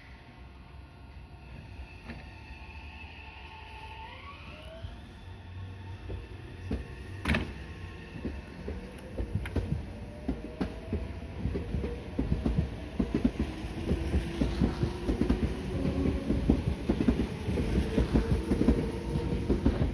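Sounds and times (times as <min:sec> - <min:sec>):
electric train low hum: 0:00.0 - 0:19.9.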